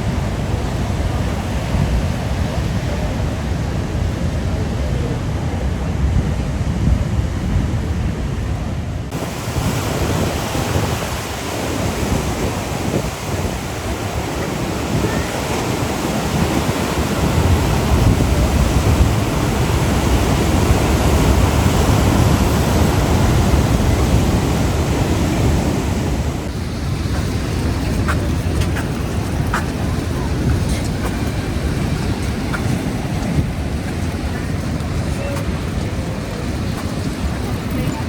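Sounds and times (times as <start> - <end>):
ocean surf washing on rocks: 0.0 - 38.0.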